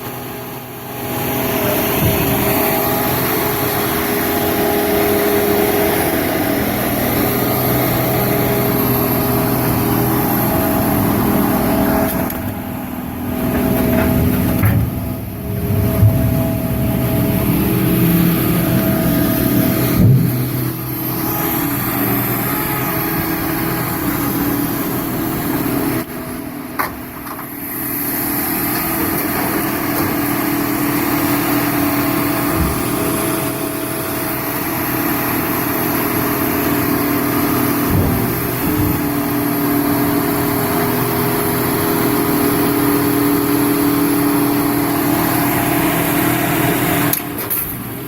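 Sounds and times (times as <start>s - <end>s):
baler engine running: 0.0s - 48.0s.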